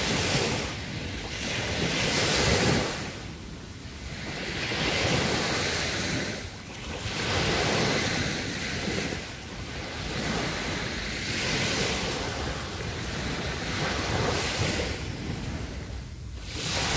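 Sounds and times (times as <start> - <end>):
small waves breaking on beach: 0.0 - 16.9
wind rumbling on microphone: 0.0 - 16.9.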